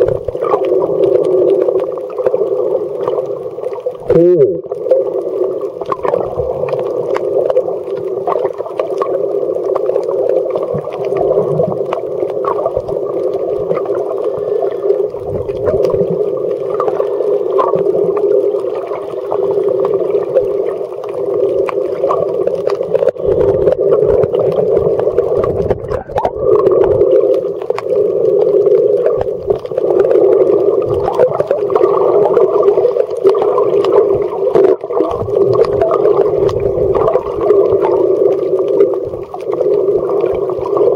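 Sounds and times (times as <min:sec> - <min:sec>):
dull underwater rush: 0:00.0 - 0:40.9
faint underwater clicks: 0:00.0 - 0:40.9.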